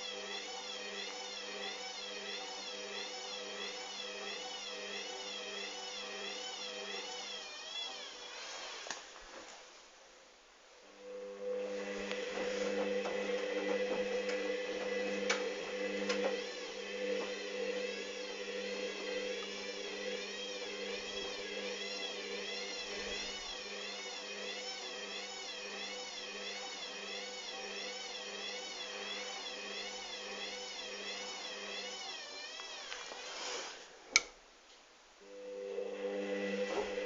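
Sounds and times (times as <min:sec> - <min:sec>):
washing machine motor whine: 0:00.0 - 0:08.9, 0:10.9 - 0:33.8, 0:35.2 - 0:37.0.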